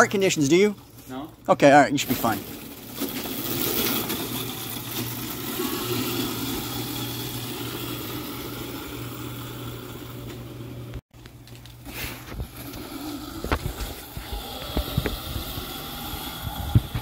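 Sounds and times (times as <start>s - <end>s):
electric go-kart motor humming: 2.0s - 11.0s, 12.2s - 17.0s.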